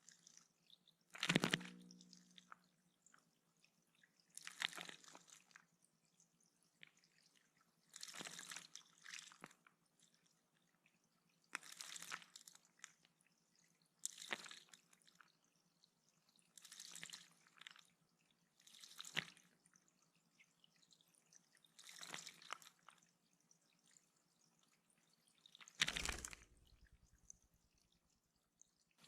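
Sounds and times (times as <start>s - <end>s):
water drips: 0.0s - 25.8s.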